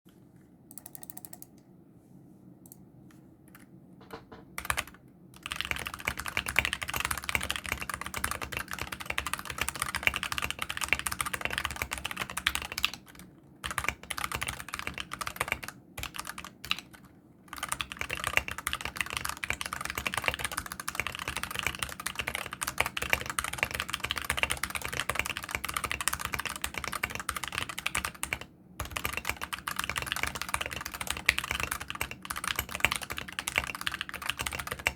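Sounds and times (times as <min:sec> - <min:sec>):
mechanical keyboard typing: 0:00.7 - 0:01.6, 0:03.5 - 0:34.9.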